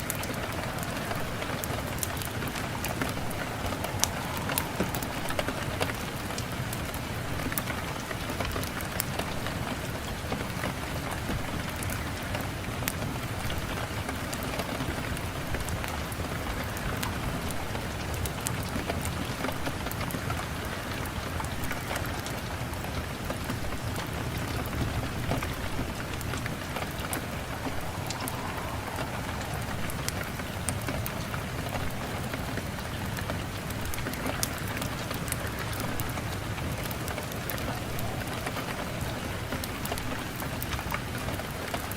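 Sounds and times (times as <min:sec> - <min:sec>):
raindrops ticking on surface: 0:00.0 - 0:41.9
steady rain hiss: 0:00.0 - 0:41.9.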